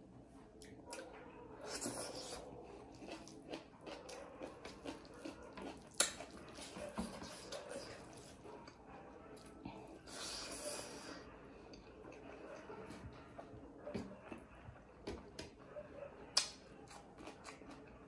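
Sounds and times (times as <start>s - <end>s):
chewing: 0.6s - 14.8s, 16.3s - 18.0s.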